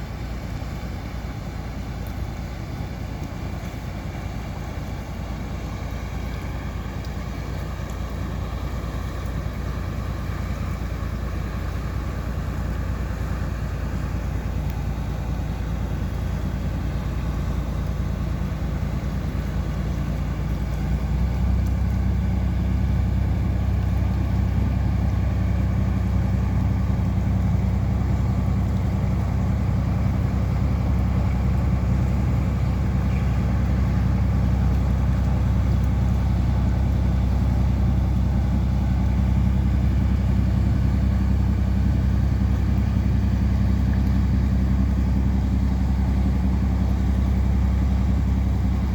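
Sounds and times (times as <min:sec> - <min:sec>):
boat engine drone: 0:00.0 - 0:48.9.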